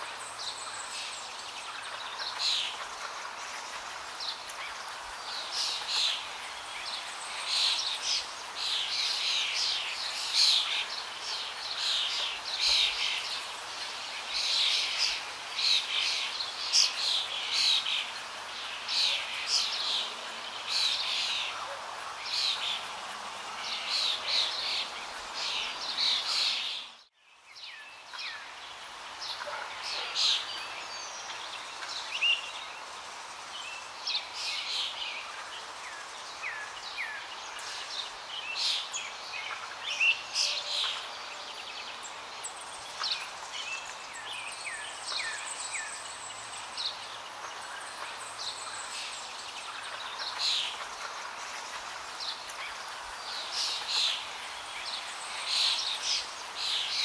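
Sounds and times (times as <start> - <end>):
background hiss: 0.0 - 57.0
songbirds chirping: 0.0 - 57.0.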